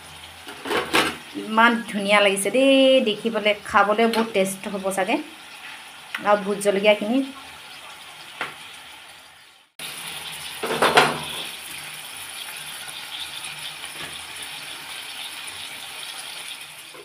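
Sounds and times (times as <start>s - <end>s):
curry sizzling in a wok: 0.0s - 17.0s.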